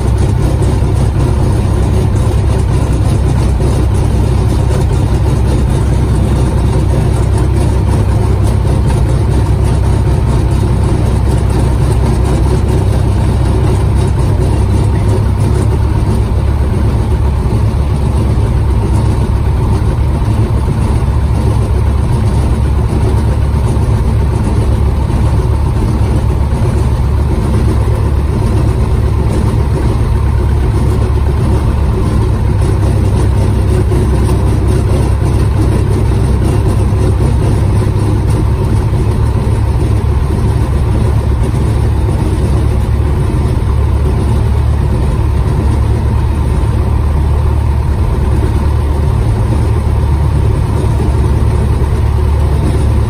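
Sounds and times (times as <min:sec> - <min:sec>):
aircraft piston engines idling: 0:00.0 - 0:53.0.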